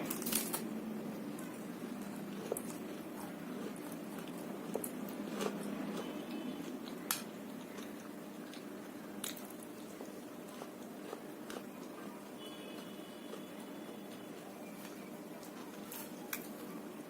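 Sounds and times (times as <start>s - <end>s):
chewing crispy fried food: 0.0s - 17.0s.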